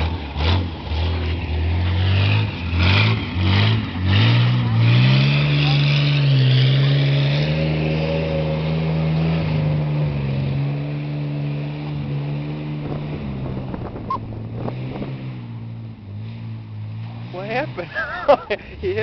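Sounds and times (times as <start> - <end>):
truck engine at high revs: 0.0 - 19.0.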